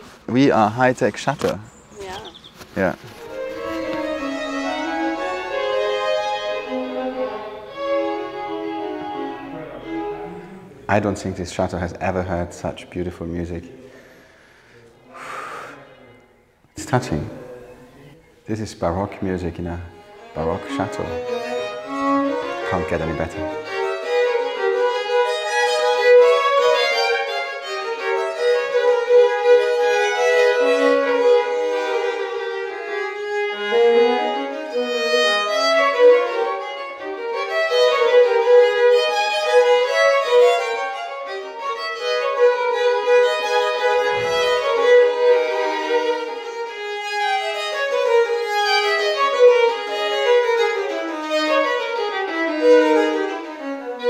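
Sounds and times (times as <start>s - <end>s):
violin duet: 0.0s - 54.0s.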